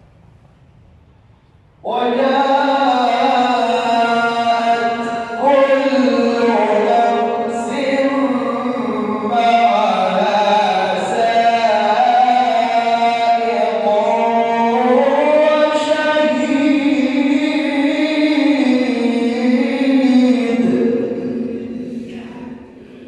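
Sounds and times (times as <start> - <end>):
man reciting melodically: 1.8 - 23.0.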